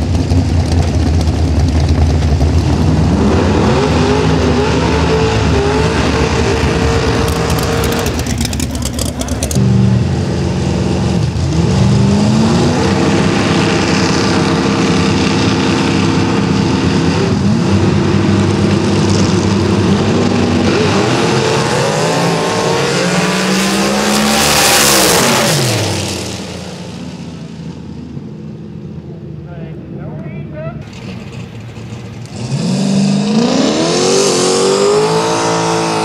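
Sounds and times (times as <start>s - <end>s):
drag racing car engines: 0.0s - 36.0s.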